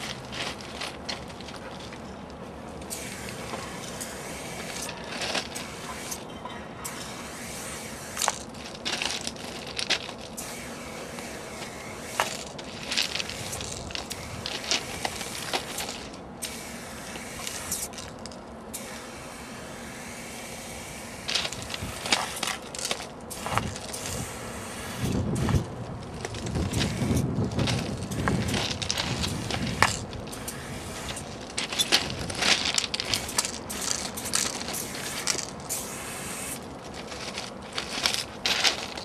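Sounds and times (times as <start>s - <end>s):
spray paint can hissing: 2.9s - 6.2s, 6.8s - 39.0s.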